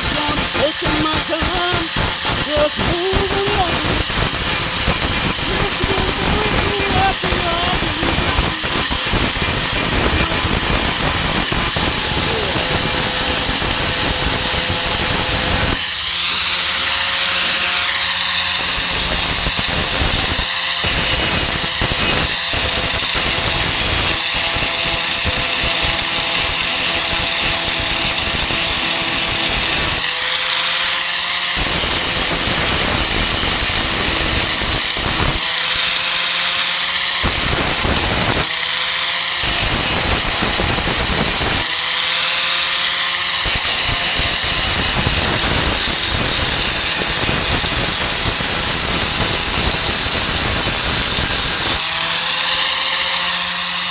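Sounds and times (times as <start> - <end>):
angle grinder grinding metal: 0.0 - 53.9.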